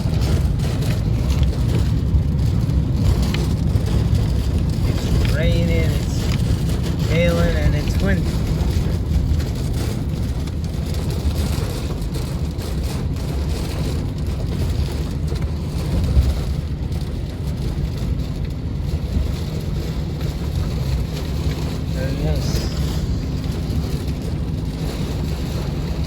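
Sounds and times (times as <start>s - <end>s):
hail and rain pelting: 0.0s - 26.0s
wind buffeting microphone: 0.0s - 26.0s.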